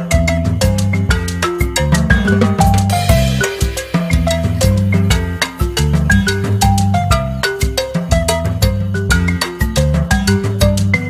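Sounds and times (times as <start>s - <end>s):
bass line: 0.0s - 11.0s
percussion beat: 0.0s - 11.0s
struck melody notes: 0.6s - 9.4s.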